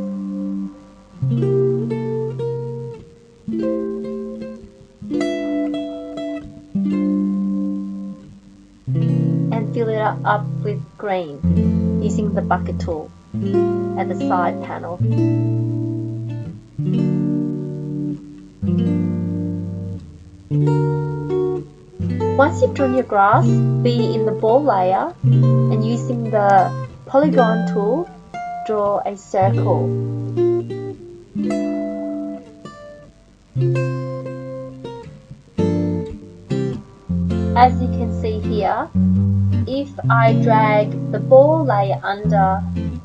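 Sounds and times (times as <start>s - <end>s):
acoustic guitar strumming chords: 0.0s - 43.0s.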